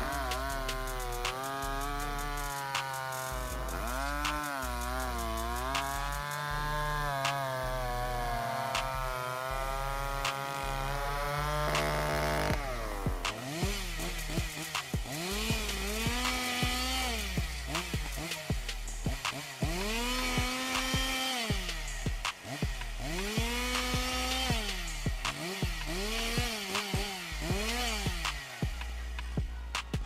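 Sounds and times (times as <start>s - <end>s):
chainsaw cutting log: 0.0s - 30.0s
chainsaw cutting tree trunk: 0.0s - 30.0s.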